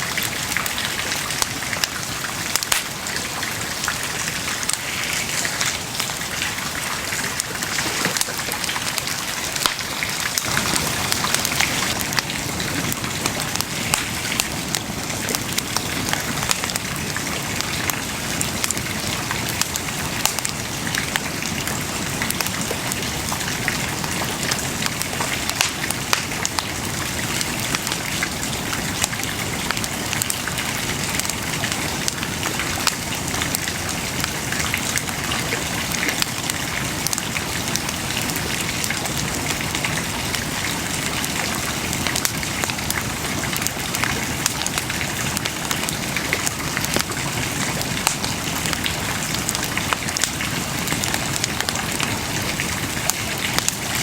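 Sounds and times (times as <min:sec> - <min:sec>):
bonfire crackling and popping: 0:00.1 - 0:54.0.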